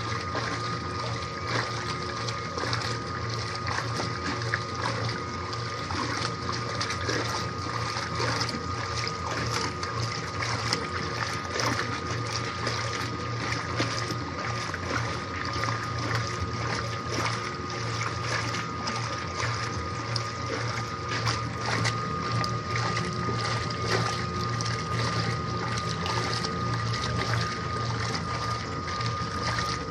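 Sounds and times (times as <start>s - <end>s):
washing machine motor hum: 0.0s - 29.9s
water sloshing and splashing: 0.0s - 29.9s.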